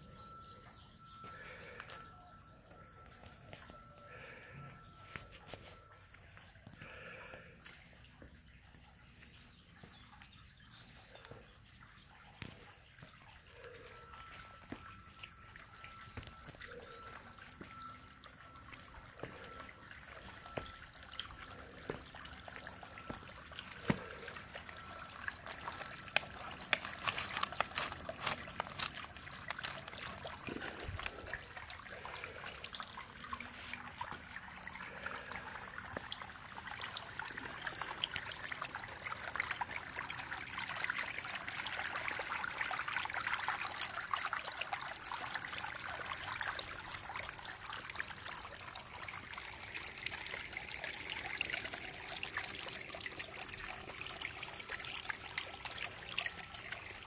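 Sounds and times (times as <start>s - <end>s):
water drips and splashes: 0.0s - 57.0s
water trickling over rock: 0.0s - 57.0s.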